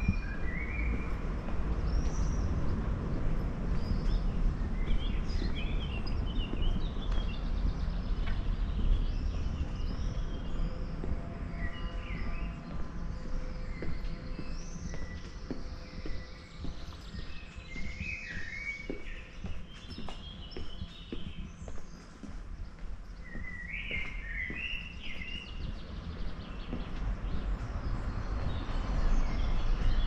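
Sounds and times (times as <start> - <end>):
small birds chirping: 0.0 - 30.0
steady low rumble: 0.0 - 30.0.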